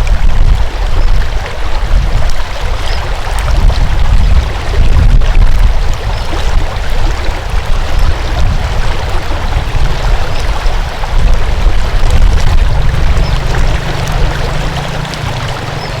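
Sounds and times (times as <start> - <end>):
water flowing: 0.0 - 16.0.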